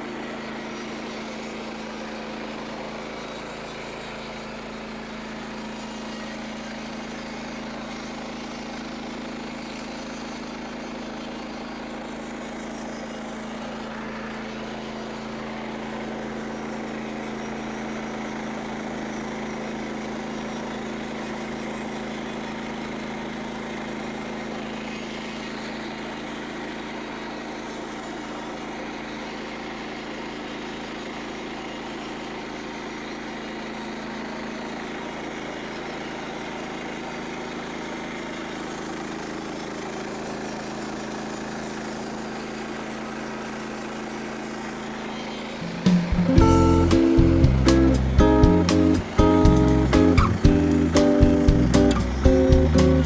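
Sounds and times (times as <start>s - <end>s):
small gasoline engine running: 0.0s - 53.0s.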